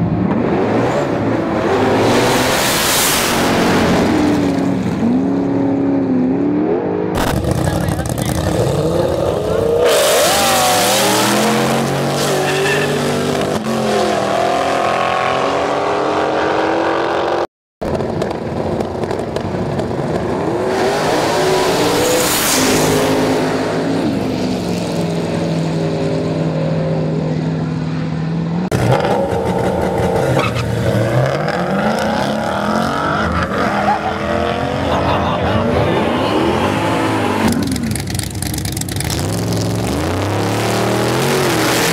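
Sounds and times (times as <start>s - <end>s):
drag car accelerating at full throttle: 0.0s - 41.9s.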